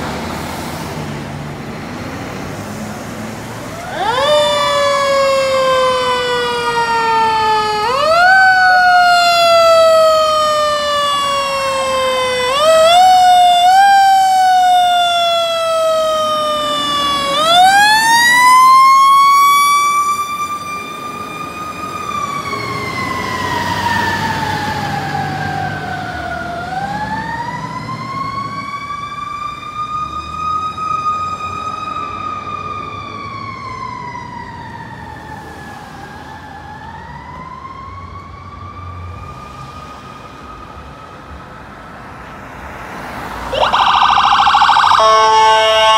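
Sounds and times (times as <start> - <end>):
fire engine siren wailing: 1.8 - 45.9.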